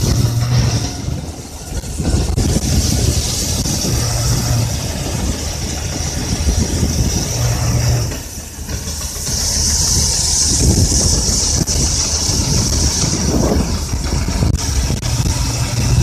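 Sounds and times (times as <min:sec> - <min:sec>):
combine harvester engine drone: 0:00.0 - 0:16.0
high hiss: 0:00.0 - 0:16.0.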